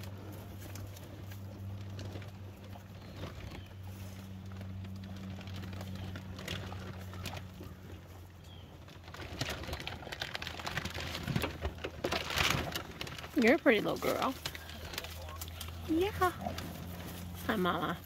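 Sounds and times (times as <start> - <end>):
cows tearing and chewing grass: 0.0 - 18.0
steady low hum: 0.0 - 18.0.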